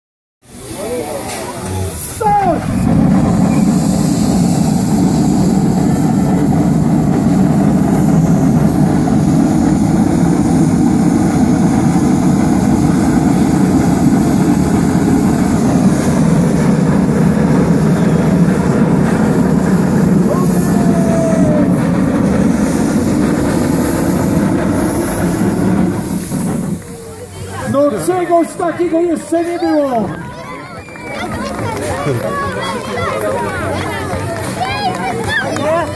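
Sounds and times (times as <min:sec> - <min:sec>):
steam locomotive exhaust rush: 0:00.4 - 0:35.9.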